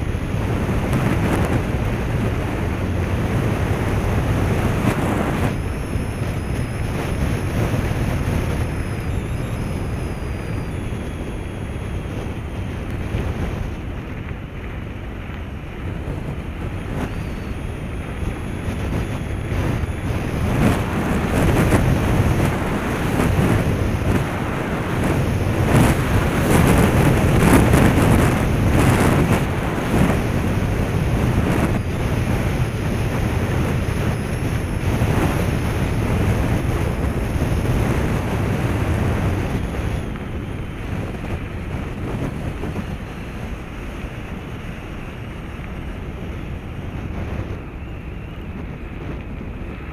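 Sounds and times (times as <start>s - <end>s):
rumble of travel over gravel road: 0.0s - 49.9s
wind rushing over microphone: 0.0s - 49.9s.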